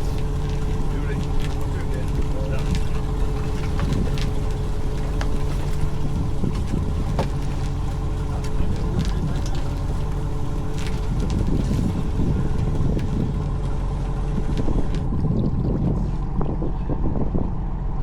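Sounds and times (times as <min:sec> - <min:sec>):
boat engine hum: 0:00.0 - 0:18.0.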